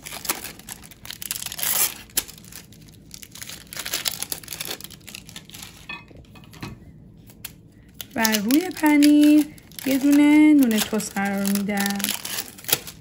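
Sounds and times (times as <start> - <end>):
plastic film crinkling: 0.0 - 6.4, 7.1 - 13.0.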